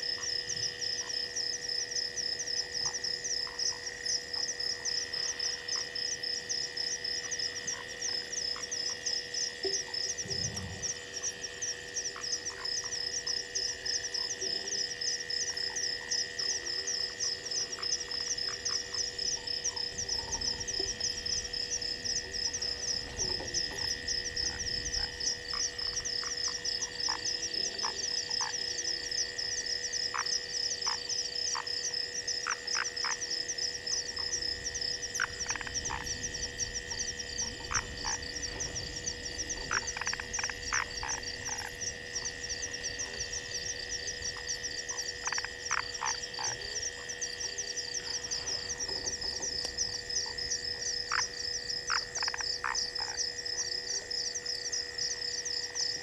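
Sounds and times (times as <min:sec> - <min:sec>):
frogs trilling: 0:00.0 - 0:56.0
low frog call: 0:00.0 - 0:56.0.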